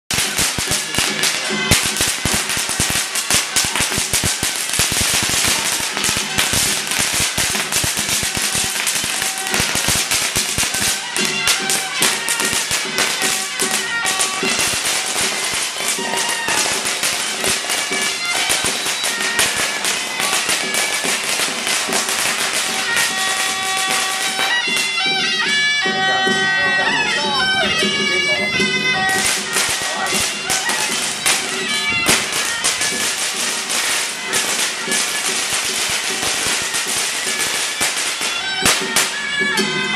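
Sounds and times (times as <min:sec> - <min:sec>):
firecrackers crackling: 0:00.1 - 0:39.9
shawm playing held reedy notes: 0:00.1 - 0:39.9.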